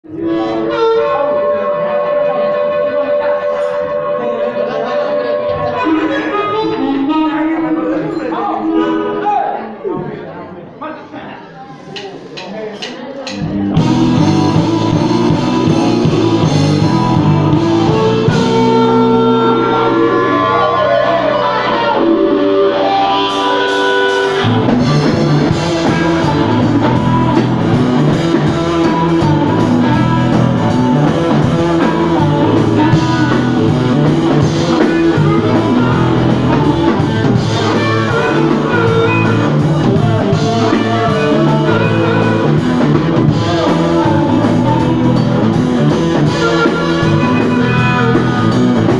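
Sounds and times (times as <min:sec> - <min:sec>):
sliding electric guitar notes: 0:00.0 - 0:09.3, 0:13.4 - 0:48.9
blues-rock band playing: 0:00.0 - 0:09.6, 0:13.4 - 0:48.9.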